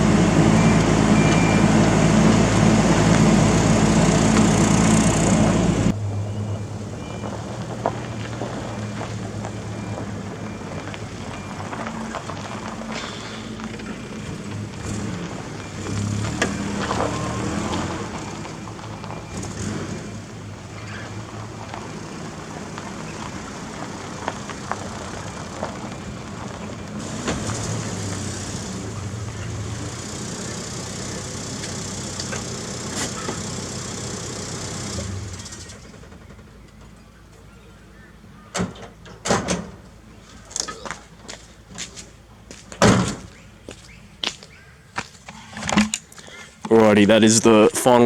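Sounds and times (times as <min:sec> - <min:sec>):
truck engine running: 0:00.0 - 0:38.4, 0:46.0 - 0:48.0.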